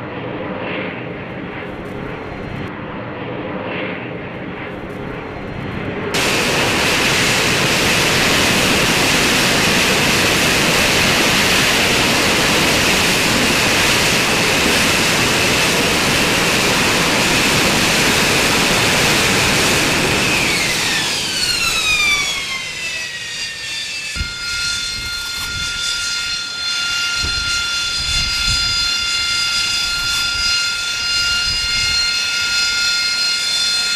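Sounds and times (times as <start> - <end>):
high jet whine: 0.0 - 33.9
jet engine roar: 0.0 - 33.9.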